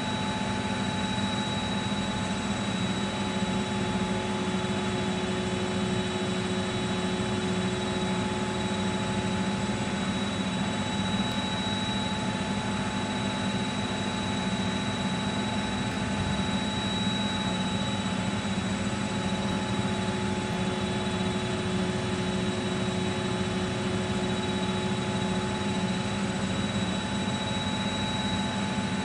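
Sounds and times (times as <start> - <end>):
washing machine spinning: 1.7 - 29.0.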